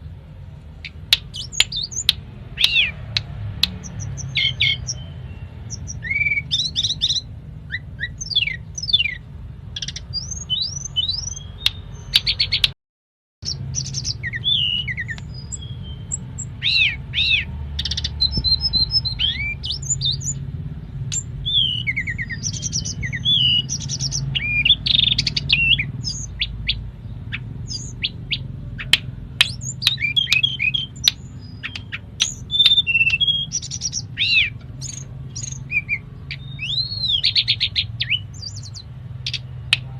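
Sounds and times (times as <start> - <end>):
songbird singing: 0.0 - 12.8, 13.4 - 39.9.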